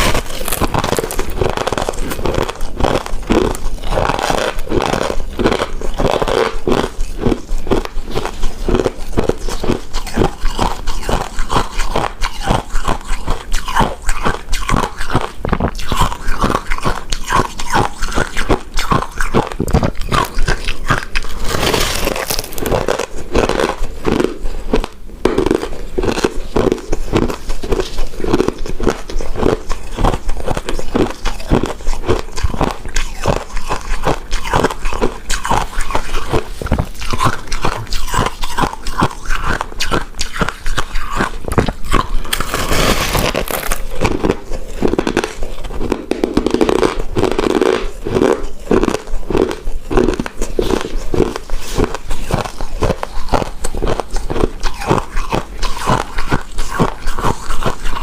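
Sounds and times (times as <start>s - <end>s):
chewing rice cake: 0.0s - 58.0s.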